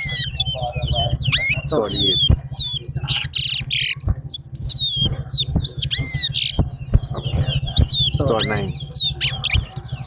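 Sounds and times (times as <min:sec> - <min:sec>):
finch singing whistled notes: 0:00.0 - 0:10.0
harsh buzzy bird notes: 0:00.0 - 0:10.0
steady low hum: 0:00.0 - 0:10.0.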